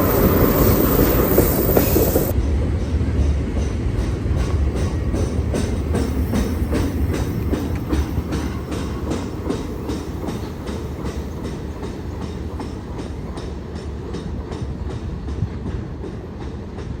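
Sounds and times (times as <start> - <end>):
wheels clacking over rail joints: 0.0 - 16.6
freight train rumbling: 0.0 - 17.0.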